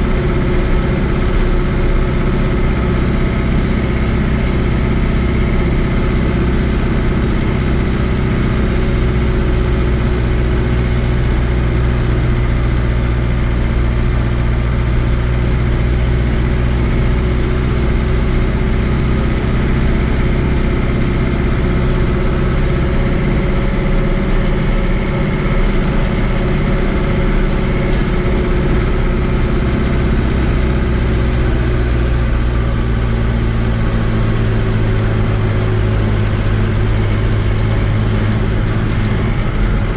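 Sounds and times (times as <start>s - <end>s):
tractor diesel engine drone: 0.0s - 39.9s.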